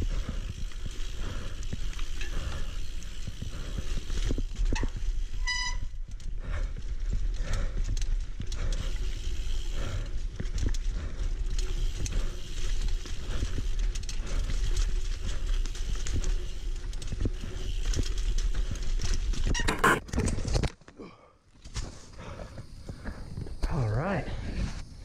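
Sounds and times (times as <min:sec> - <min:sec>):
bike rattling and knocking: 0:00.0 - 0:20.5
wind: 0:00.0 - 0:25.0.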